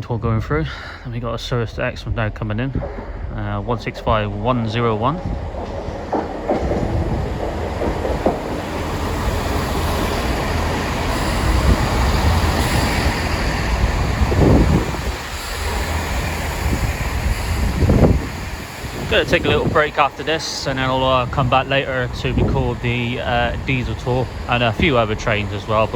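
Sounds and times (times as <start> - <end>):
diesel train engine and wheels rumbling: 0.0 - 25.9.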